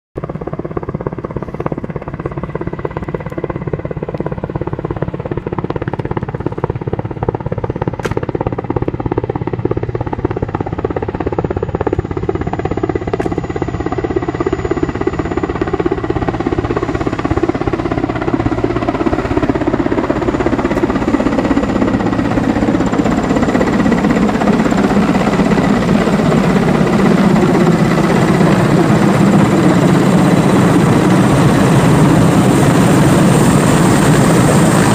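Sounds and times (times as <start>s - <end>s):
helicopter rotor beat: 0.2s - 34.9s
turbine whine: 0.2s - 34.9s.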